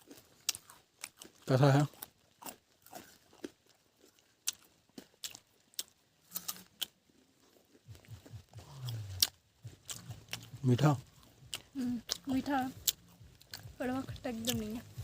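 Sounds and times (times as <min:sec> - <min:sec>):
person chewing crisp pear: 0:00.0 - 0:15.0.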